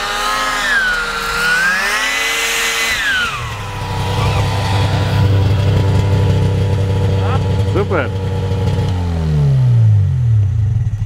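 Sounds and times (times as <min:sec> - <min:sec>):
snowmobile engine passing by: 0:00.0 - 0:10.0.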